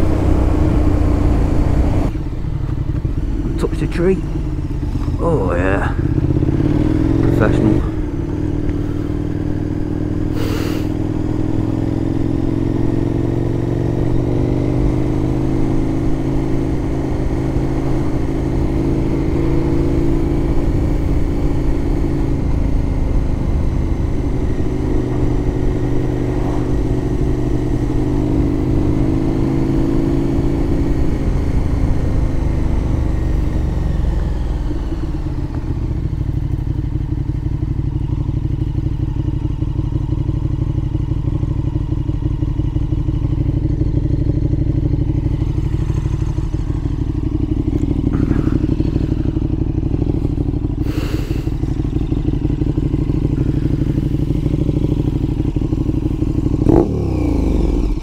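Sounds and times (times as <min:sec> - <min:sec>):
motorcycle engine at road speed: 0:00.0 - 0:58.0.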